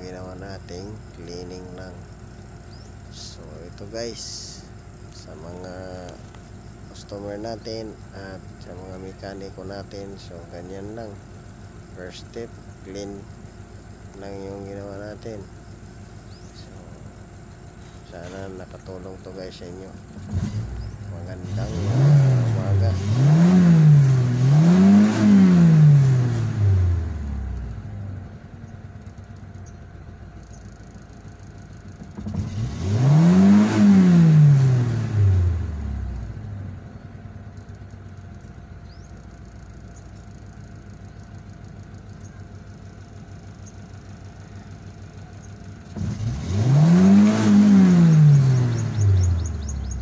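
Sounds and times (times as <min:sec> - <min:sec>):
car engine revving and idling: 0:00.0 - 0:50.0.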